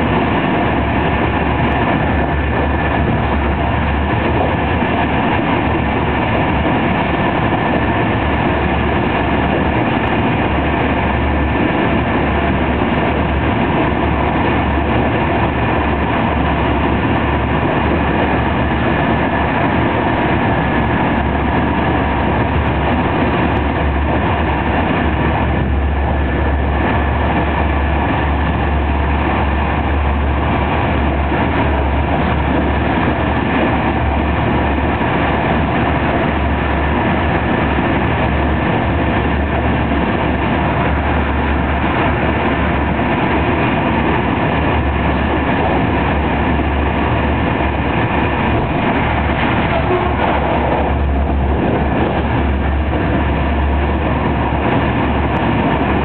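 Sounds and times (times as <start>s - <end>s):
low rumble: 0.0s - 56.0s
train wheels rolling on rail: 0.0s - 56.0s.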